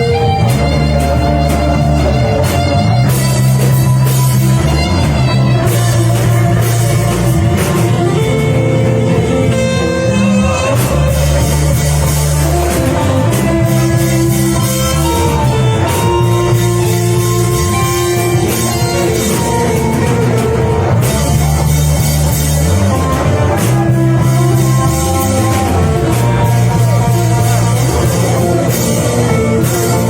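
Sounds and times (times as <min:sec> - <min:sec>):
instrumental band groove: 0:00.0 - 0:30.0.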